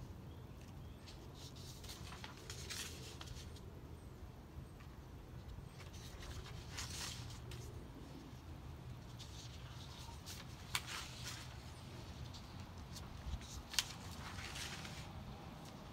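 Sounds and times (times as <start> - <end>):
paper rustling: 0.6 - 3.7, 4.8 - 15.9.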